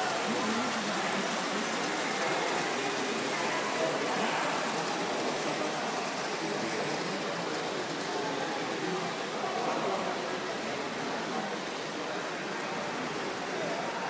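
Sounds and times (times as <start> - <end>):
model train wheels clattering: 0.0 - 13.7
indistinct voices: 0.0 - 14.0.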